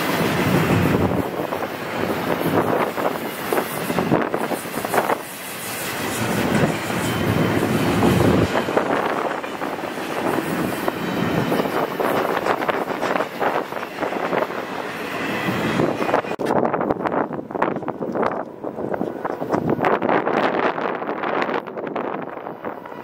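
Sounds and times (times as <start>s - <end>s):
freight train wheels clattering: 0.0s - 23.0s.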